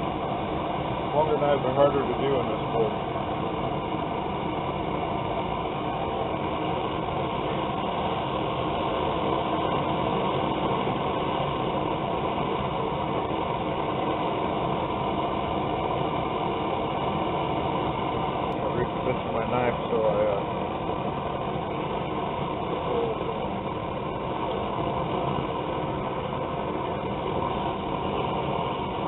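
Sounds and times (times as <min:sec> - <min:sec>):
gas burner rushing: 0:00.0 - 0:29.0.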